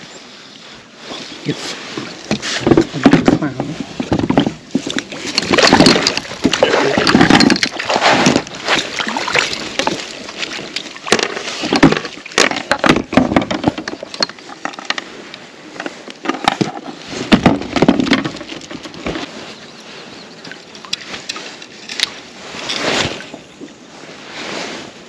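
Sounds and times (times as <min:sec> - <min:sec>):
water splashing and sloshing: 0:00.7 - 0:25.0.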